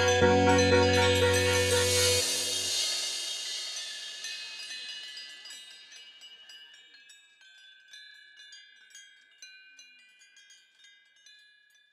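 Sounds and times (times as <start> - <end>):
chimes tinkling: 0.0 - 11.9.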